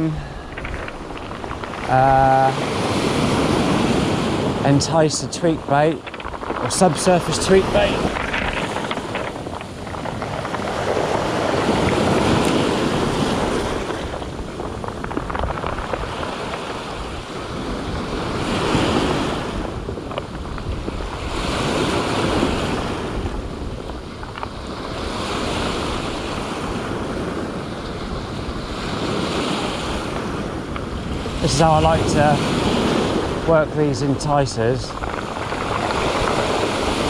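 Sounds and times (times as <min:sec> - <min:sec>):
surf breaking on cobble beach: 0:00.0 - 0:37.0
wind buffeting microphone: 0:00.0 - 0:37.0.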